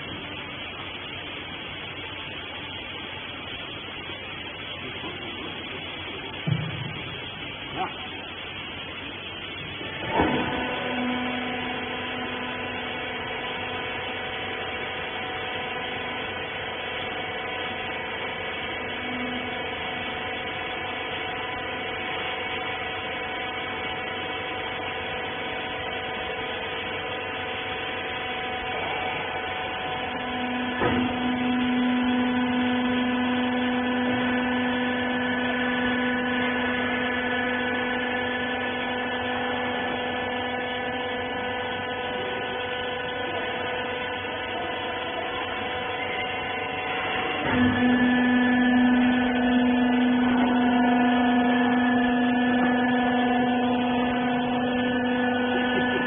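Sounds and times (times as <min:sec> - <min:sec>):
electric motor and pump humming: 0:00.0 - 0:56.0.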